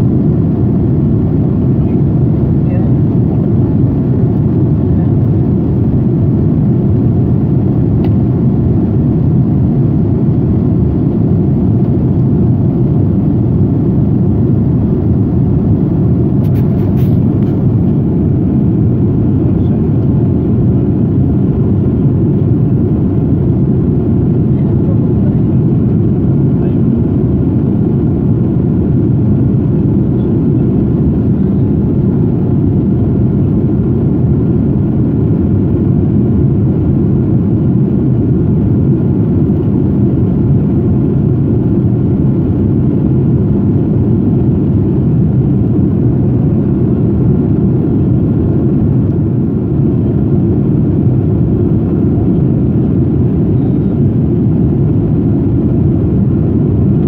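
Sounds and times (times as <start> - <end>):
airplane cabin engine noise: 0.0 - 57.0.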